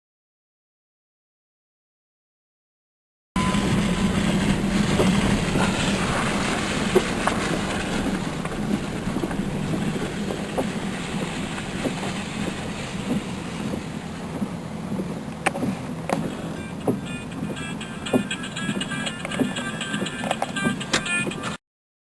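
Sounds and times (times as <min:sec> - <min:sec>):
rattles and clicks: 0:03.4 - 0:21.6
vehicle engine humming: 0:03.4 - 0:21.6.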